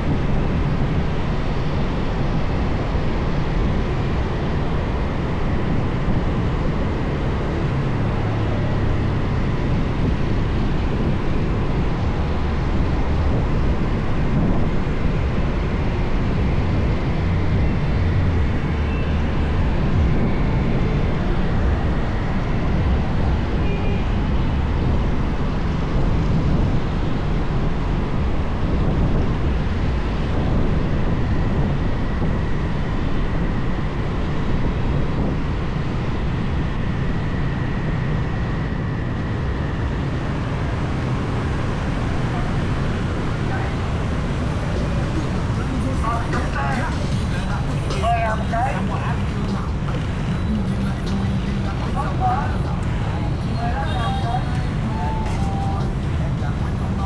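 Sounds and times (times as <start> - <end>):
surrounding traffic: 0.0 - 57.0
wind: 0.0 - 57.0.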